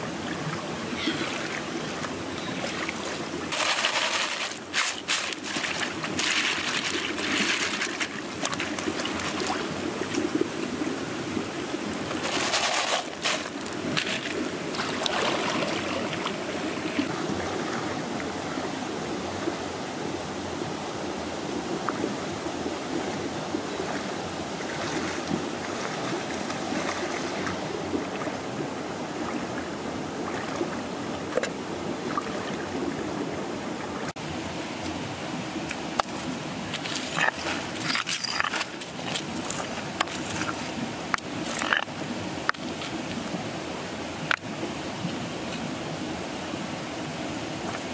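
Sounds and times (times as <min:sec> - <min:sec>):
rocky stream running: 0:00.0 - 0:47.9.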